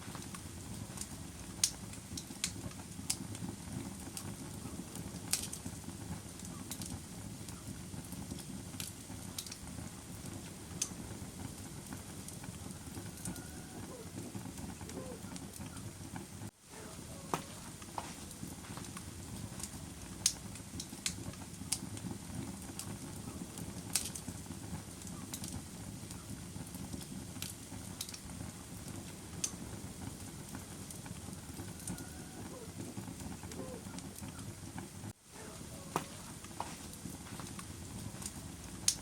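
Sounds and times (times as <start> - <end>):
campfire crackling and popping: 0.0 - 39.0
low rush of flame: 0.0 - 39.0.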